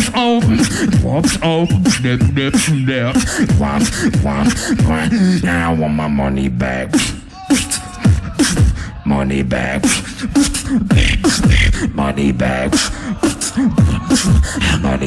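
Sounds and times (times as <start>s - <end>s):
beatboxing into a microphone: 0.0s - 15.0s.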